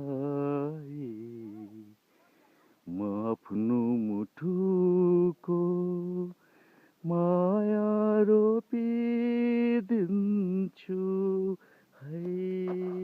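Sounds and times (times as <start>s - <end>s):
person singing without words: 0.0s - 2.0s, 2.9s - 6.4s, 7.0s - 13.0s.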